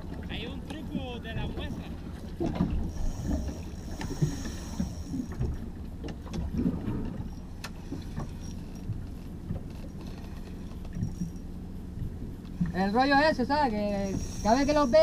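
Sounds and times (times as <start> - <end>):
motorboat engine hum: 0.0 - 15.0
water and wind around hull: 0.0 - 15.0.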